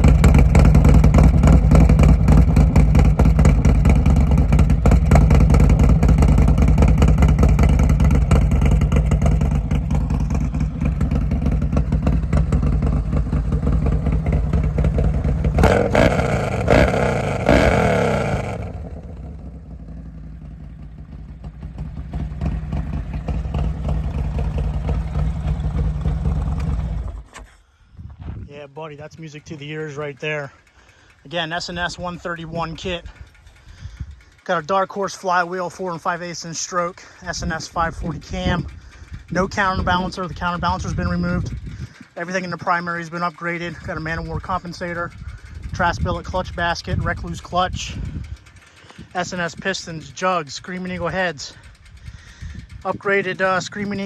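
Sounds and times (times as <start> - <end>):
motorcycle engine revving and idling: 0.0 - 27.3, 29.0 - 54.0.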